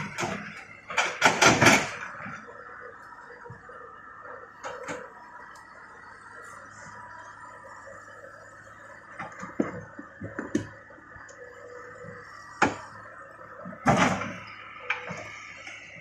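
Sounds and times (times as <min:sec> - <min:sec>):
excavator running: 0:00.0 - 0:16.0.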